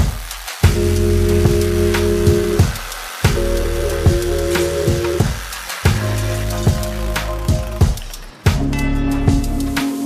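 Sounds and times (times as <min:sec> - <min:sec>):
deep kick drum: 0:00.0 - 0:03.4, 0:04.1 - 0:08.7, 0:09.3 - 0:09.7
held synth chords: 0:00.0 - 0:10.0
hi-hat ticks: 0:00.0 - 0:10.0.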